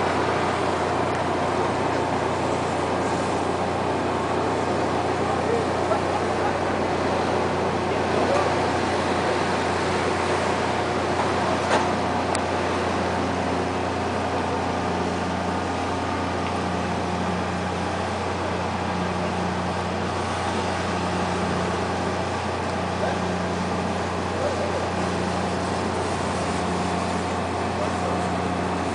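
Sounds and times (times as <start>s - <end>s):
boat engine idling: 0.0s - 28.9s.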